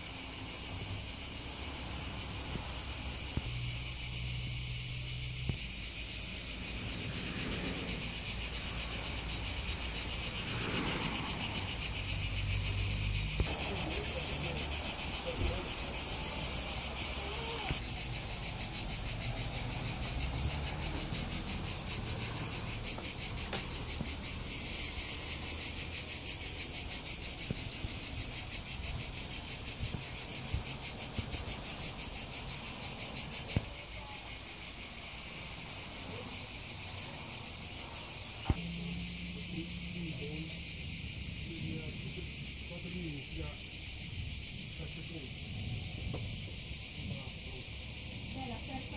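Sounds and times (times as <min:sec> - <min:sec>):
insects buzzing: 0:00.0 - 0:48.9.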